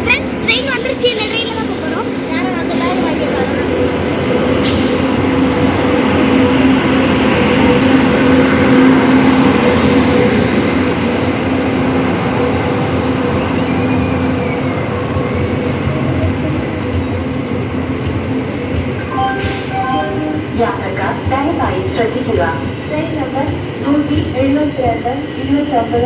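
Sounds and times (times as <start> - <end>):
rumble and rattle of carriages: 0.0 - 26.0
train hum: 0.0 - 26.0.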